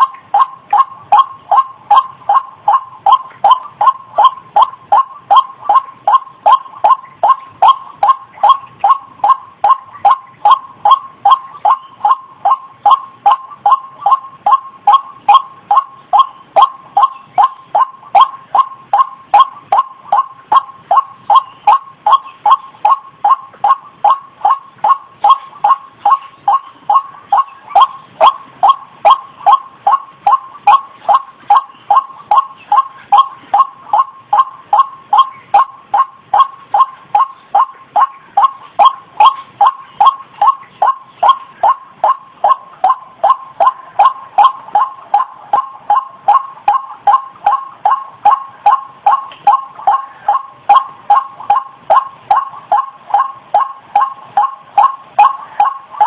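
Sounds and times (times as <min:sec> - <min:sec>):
waterhen hoarse calls: 0:00.0 - 0:56.0.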